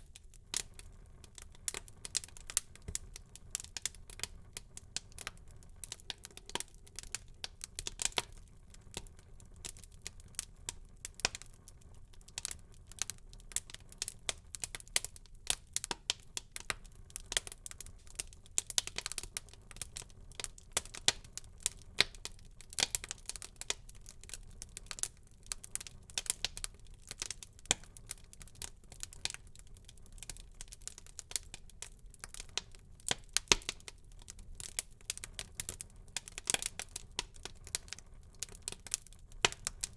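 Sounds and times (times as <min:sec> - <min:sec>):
low rumble of flame: 0:00.0 - 0:39.9
wood fire crackling: 0:00.0 - 0:39.9.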